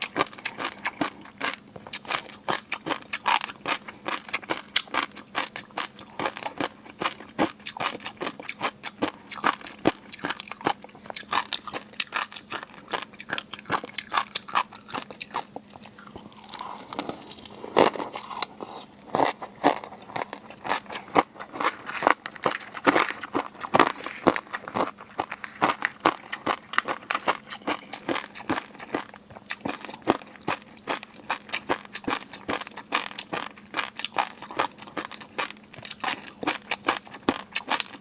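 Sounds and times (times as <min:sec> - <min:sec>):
chewing and crunching seafood: 0:00.0 - 0:38.0.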